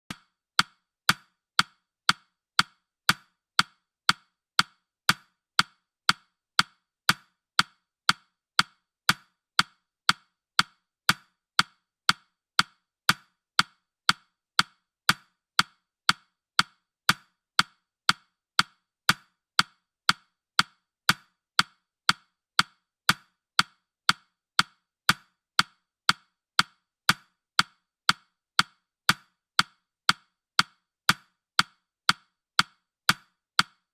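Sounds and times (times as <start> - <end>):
timer ticking: 0.1 - 33.9.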